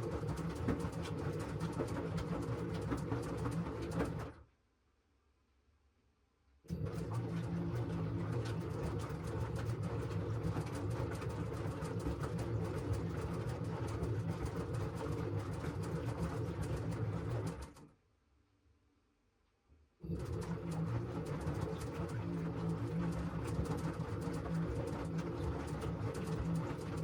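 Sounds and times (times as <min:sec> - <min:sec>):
washing machine motor hum: 0:00.0 - 0:04.4, 0:06.7 - 0:17.8, 0:20.0 - 0:27.0.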